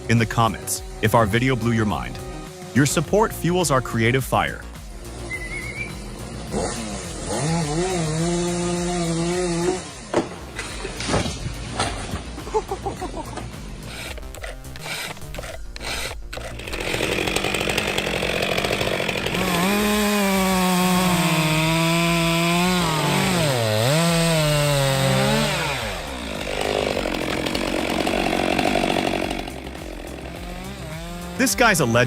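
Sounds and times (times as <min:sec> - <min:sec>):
chainsaw cutting through trunk: 0:04.9 - 0:32.0.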